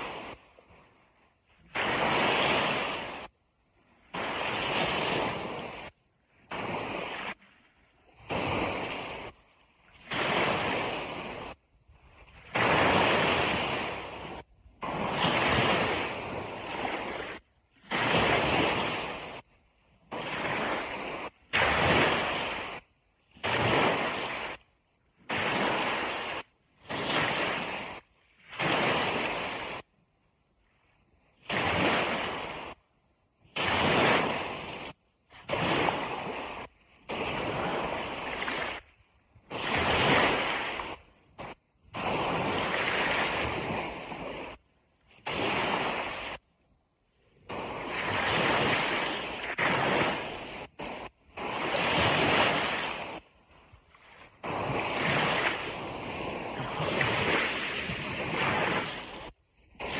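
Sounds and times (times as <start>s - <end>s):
ocean surf on a beach: 0.0s - 59.9s.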